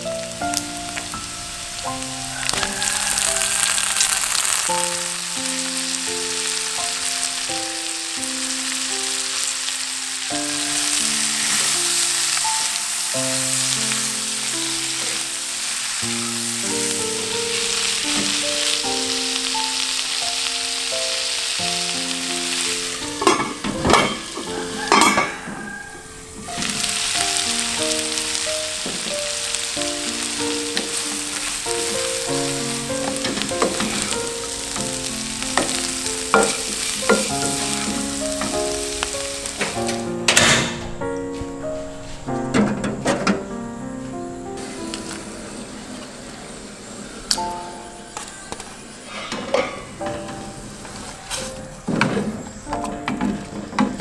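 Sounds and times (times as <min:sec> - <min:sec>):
food sizzling in a wok: 0:00.0 - 0:40.7, 0:44.6 - 0:47.5.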